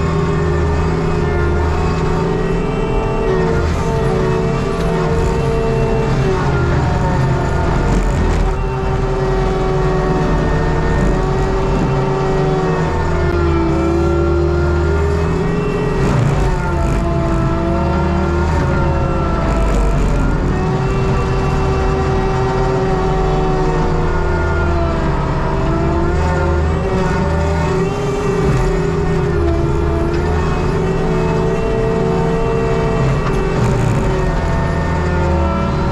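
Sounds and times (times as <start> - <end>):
diesel engine at high revs: 0.0 - 35.9.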